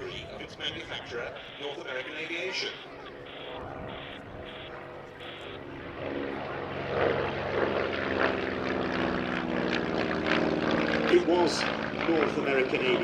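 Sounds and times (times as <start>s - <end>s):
propeller aircraft flying past: 0.0s - 13.0s.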